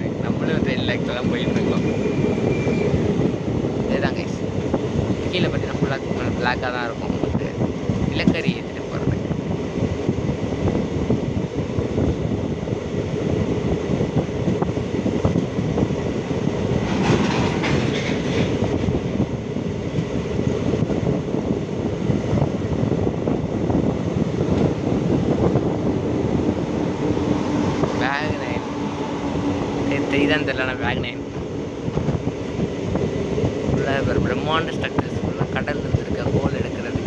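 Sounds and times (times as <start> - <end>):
train rumble and rattle: 0.0 - 37.0.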